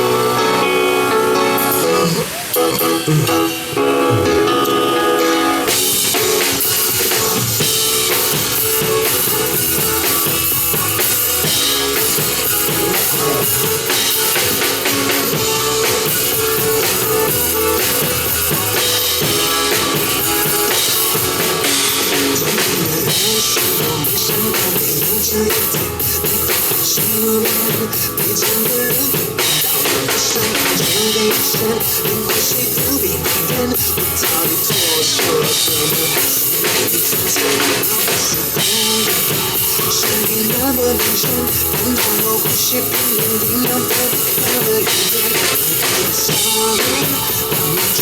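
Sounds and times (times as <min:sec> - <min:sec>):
guitar lead-in: 0:00.0 - 0:48.0
live pop-rock band: 0:00.0 - 0:48.0.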